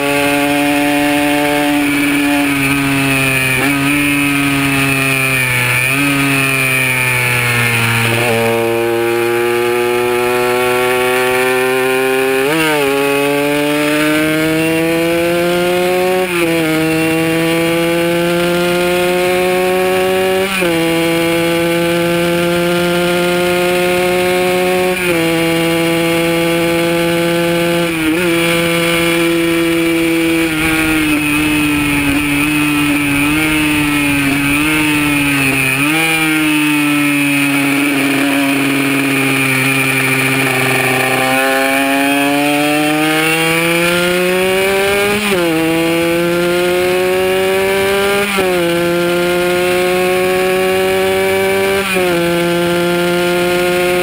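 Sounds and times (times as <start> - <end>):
two-stroke motorcycle engine racing: 0.0 - 54.0.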